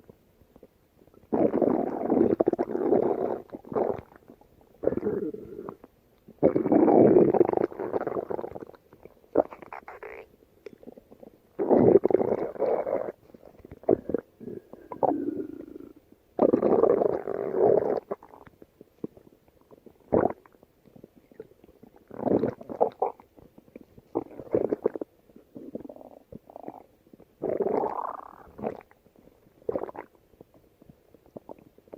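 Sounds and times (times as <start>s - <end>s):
stomach growling and gurgling: 0.0s - 31.9s.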